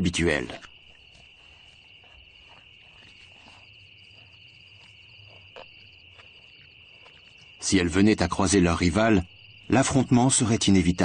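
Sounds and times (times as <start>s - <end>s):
crickets trilling: 0.0s - 11.0s
pulsing high insect trill: 0.0s - 11.0s.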